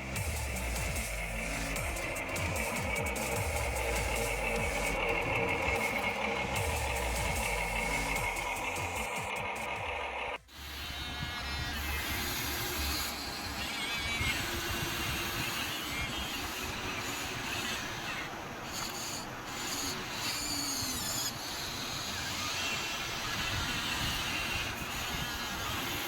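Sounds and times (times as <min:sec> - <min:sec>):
toy excavator motors whirring: 0:00.0 - 0:26.0.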